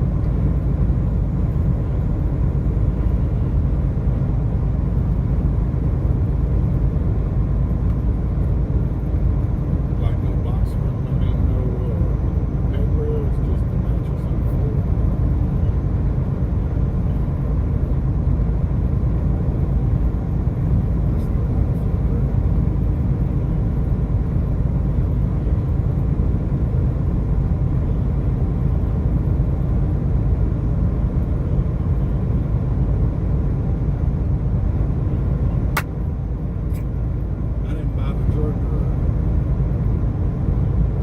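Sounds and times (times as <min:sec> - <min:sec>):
car driving rumble: 0:00.0 - 0:41.0.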